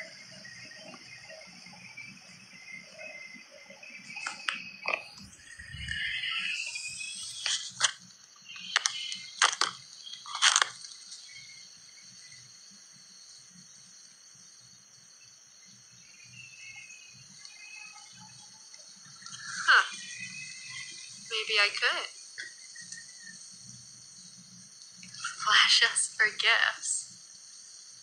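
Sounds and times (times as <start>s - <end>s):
faint high hiss: 0.0s - 28.0s.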